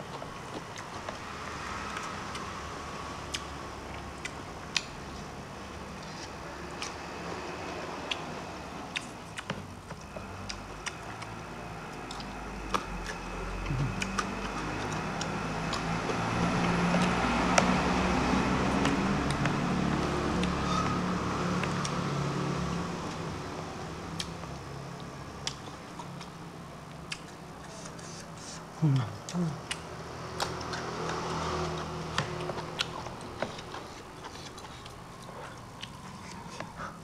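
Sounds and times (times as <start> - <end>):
man chewing rice: 0.0 - 37.0
lip smacks and mouth clicks: 3.3 - 21.0, 21.6 - 22.1, 24.1 - 37.0.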